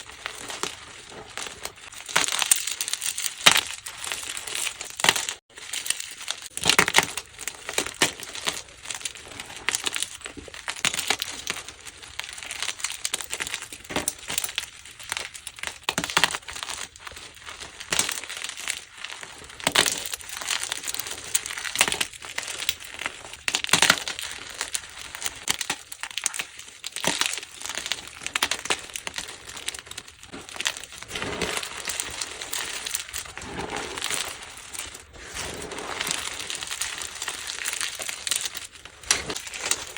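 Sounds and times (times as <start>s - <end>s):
chalk blocks crumbling: 0.0s - 39.9s.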